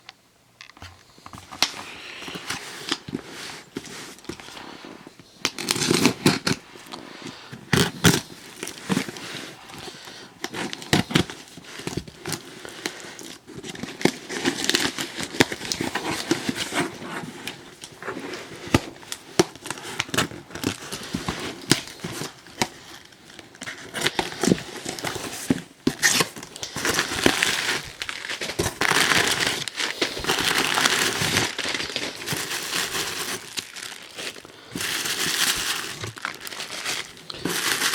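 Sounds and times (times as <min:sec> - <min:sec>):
packaging crinkling: 0:00.7 - 0:37.9.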